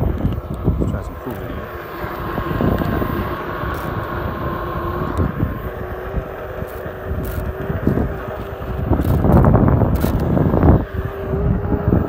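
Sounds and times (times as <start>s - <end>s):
tyre rumbling over asphalt: 0.0s - 11.3s
electric motor whine: 0.0s - 12.0s
wind buffeting microphone: 0.0s - 12.0s.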